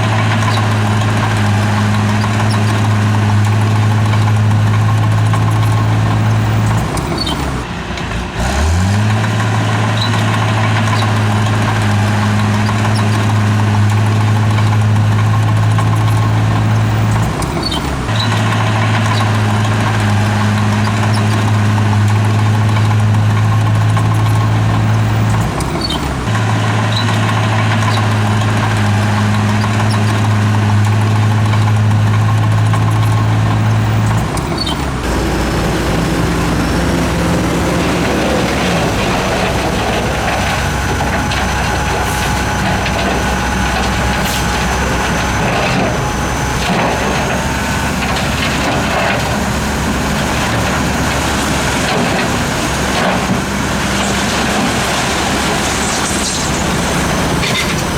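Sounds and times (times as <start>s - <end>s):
heavy diesel engine running: 0.0s - 57.9s.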